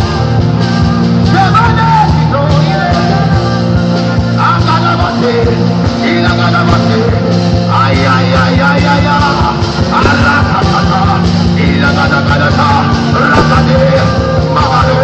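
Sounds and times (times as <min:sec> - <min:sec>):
drum beat: 0:00.0 - 0:15.0
live band music: 0:00.0 - 0:15.0
person singing: 0:00.0 - 0:15.0.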